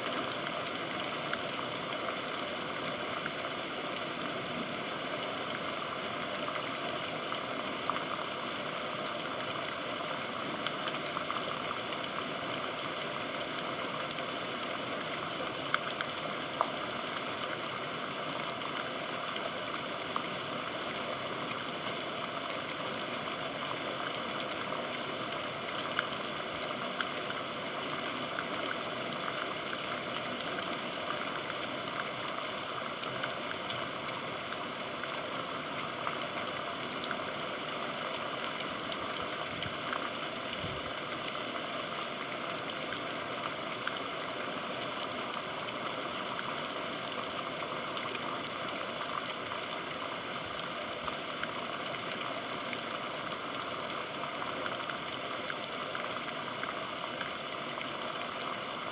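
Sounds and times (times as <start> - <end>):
raindrops ticking on a surface: 0.0 - 58.9.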